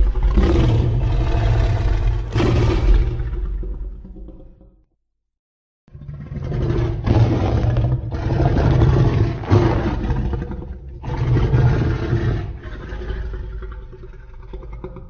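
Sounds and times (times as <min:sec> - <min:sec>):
deep monster roars and growls: 0:00.0 - 0:04.8, 0:05.9 - 0:15.0.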